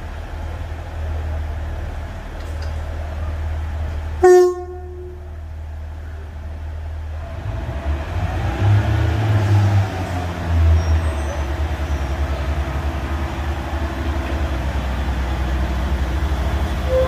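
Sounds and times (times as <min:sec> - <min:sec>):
diesel train engine rumbling: 0:00.0 - 0:17.0.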